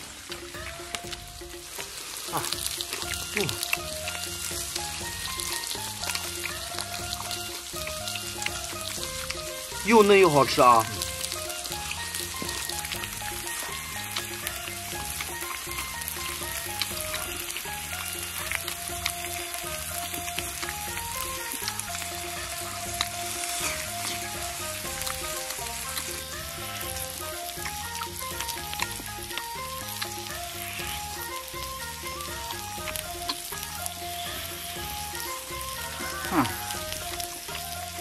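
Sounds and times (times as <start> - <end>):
background music with bass: 0.0 - 38.0
food sizzling on a griddle: 0.0 - 38.0.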